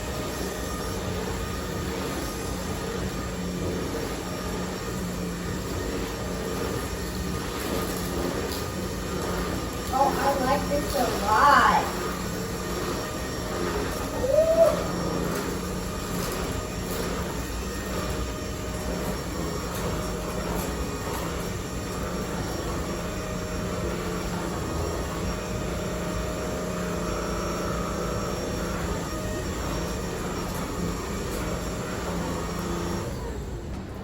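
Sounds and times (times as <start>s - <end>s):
stick vacuum motor hum: 0.0s - 34.0s.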